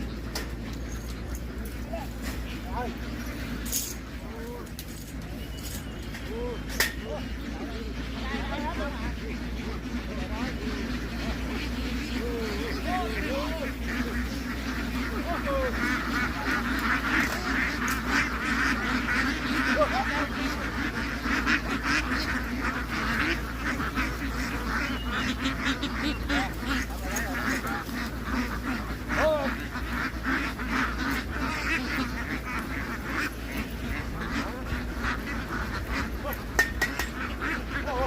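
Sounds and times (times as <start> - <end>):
ducks quacking: 0.0 - 38.0
steady low hum: 0.0 - 38.0.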